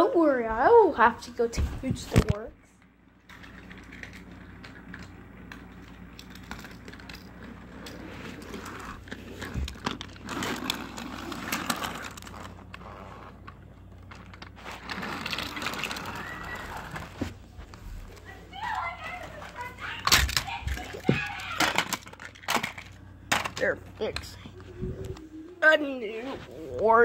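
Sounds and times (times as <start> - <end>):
rustling handling noise: 3.3 - 27.0.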